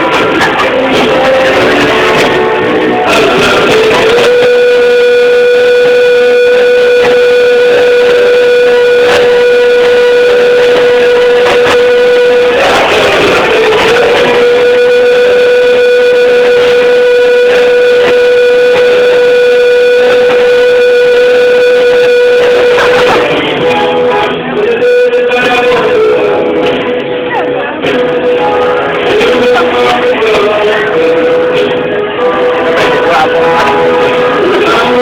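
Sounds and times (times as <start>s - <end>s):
loud music with held note: 0.0s - 35.0s.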